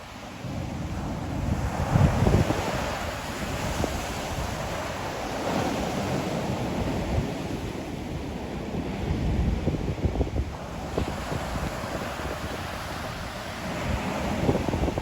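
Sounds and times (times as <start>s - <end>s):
wind buffeting microphone: 0.1s - 15.0s.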